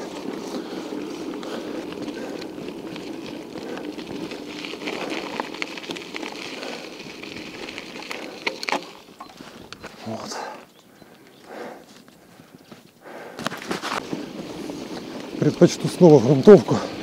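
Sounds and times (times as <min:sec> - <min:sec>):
bike tyre and wind rush: 0:00.0 - 0:17.0.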